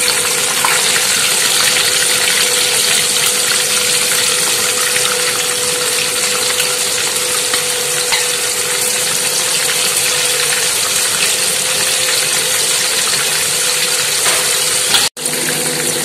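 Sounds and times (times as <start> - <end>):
prawns deep-frying in oil: 0.0 - 16.0.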